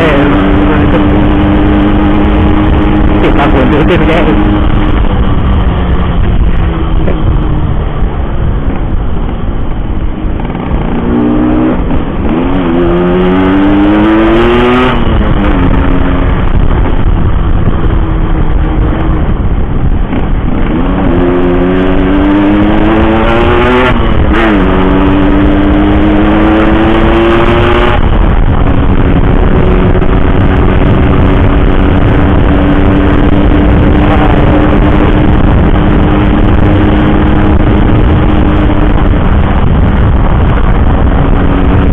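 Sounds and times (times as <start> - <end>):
motorcycle engine accelerating: 0.0 - 41.9
wind noise on microphone: 0.0 - 41.9.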